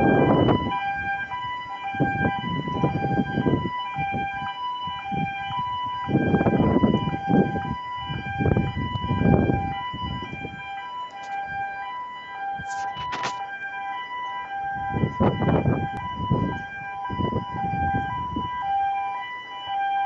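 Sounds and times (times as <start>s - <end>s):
two-tone alarm siren: 0.0s - 20.0s.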